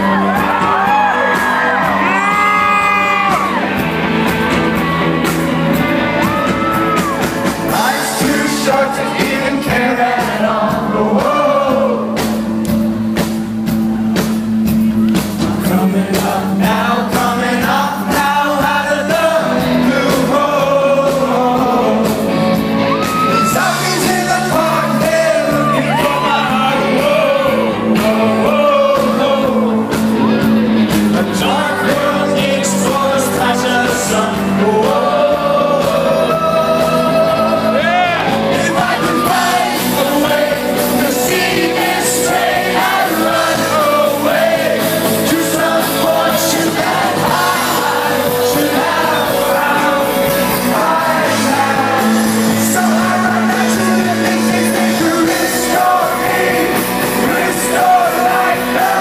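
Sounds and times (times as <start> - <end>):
rock band playing live: 0.0 - 59.0
man singing lead vocal: 6.4 - 12.5, 15.4 - 59.0.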